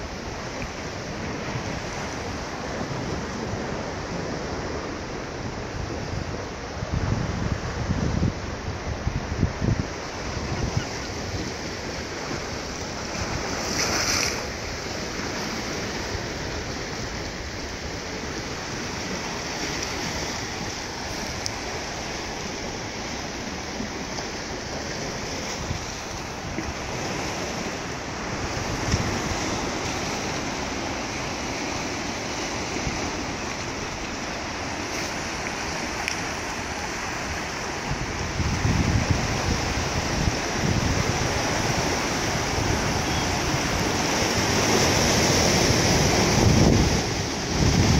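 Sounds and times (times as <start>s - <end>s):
sea waves washing ashore: 0.0s - 47.9s
wind buffeting microphone: 0.9s - 47.9s.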